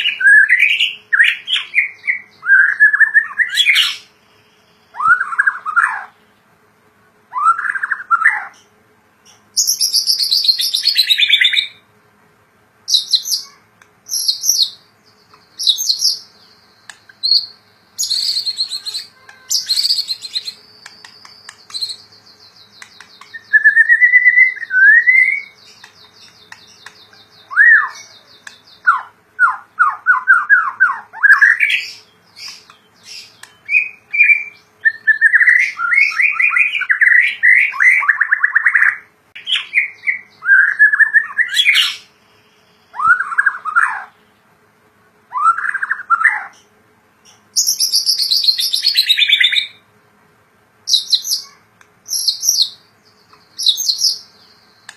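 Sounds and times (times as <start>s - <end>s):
bird singing varied song: 0.0s - 6.6s, 7.3s - 11.9s, 12.8s - 54.9s.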